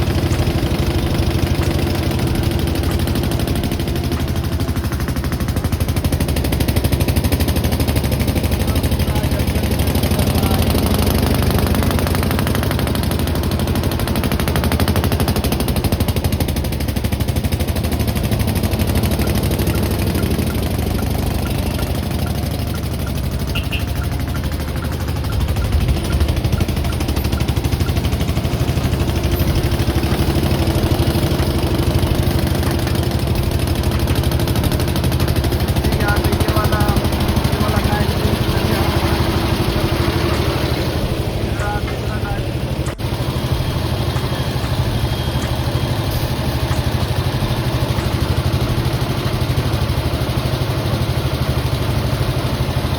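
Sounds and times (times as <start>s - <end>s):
motor running with rapid pulse: 0.0s - 52.9s.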